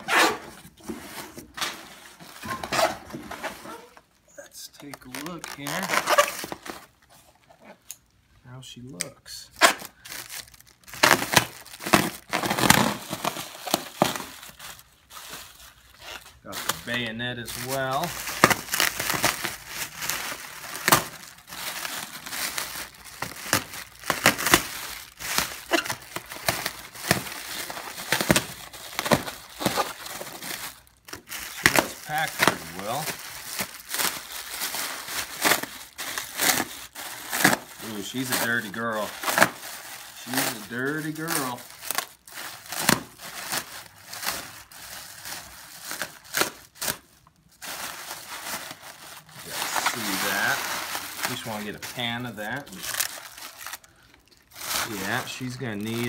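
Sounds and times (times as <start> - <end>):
plastic packing wrap crinkling: 0.0 - 7.9, 9.6 - 56.0.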